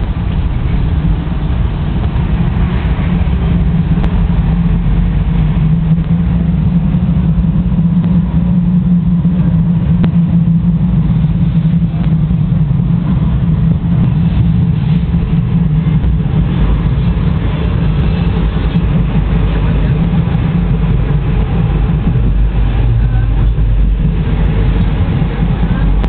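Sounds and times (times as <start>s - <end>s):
electric tram hum and rumble: 0.0s - 26.0s.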